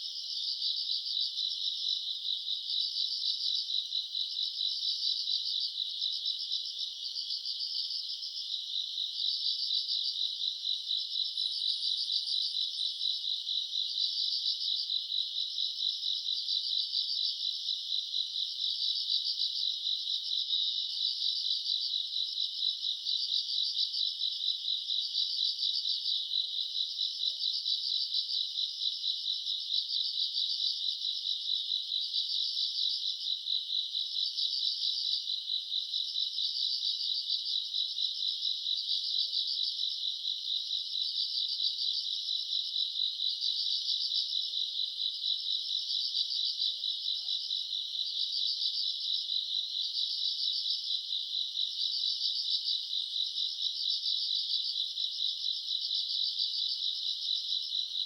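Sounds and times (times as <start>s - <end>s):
insects chirping in chorus: 0.0s - 58.0s.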